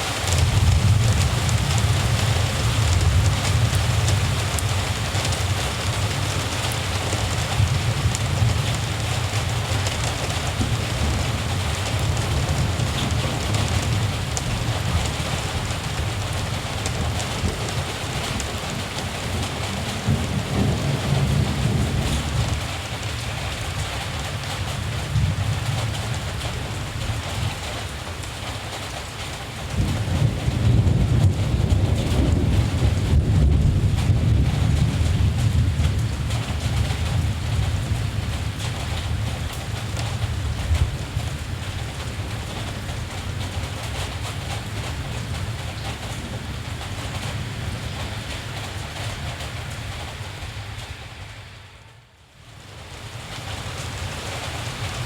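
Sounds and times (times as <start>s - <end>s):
steady rain: 0.0s - 55.0s
distant thunder rumble: 0.3s - 23.2s, 29.7s - 50.9s.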